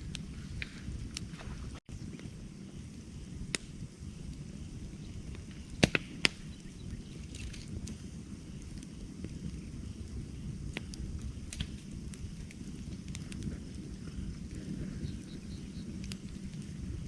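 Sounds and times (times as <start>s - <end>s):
campfire burning: 0.0s - 17.0s
loud pops of fire: 0.0s - 17.0s.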